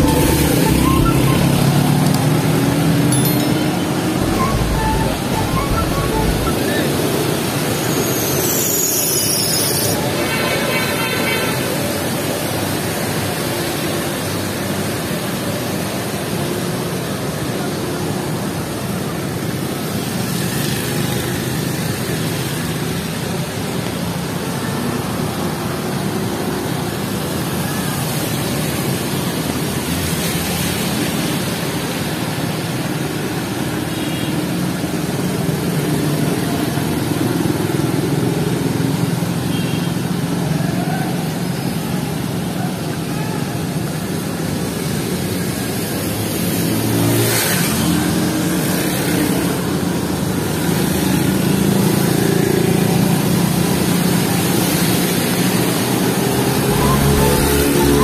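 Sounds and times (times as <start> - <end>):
vehicles passing on wet road: 0.0 - 58.0
rain: 3.9 - 58.0.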